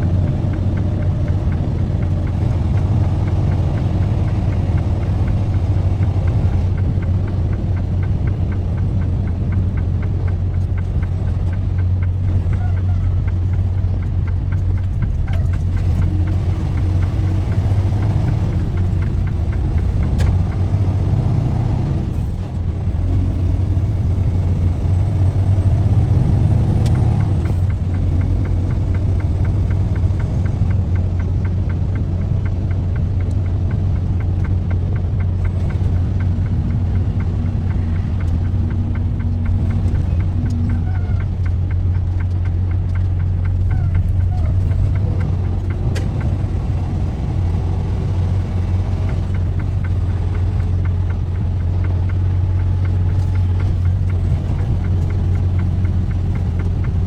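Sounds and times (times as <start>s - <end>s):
road noise: 0.0s - 57.0s
truck engine drone: 0.0s - 57.0s.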